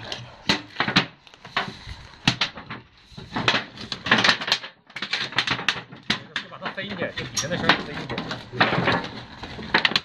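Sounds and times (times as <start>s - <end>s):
sheet metal clicks and rattles: 0.0s - 10.0s.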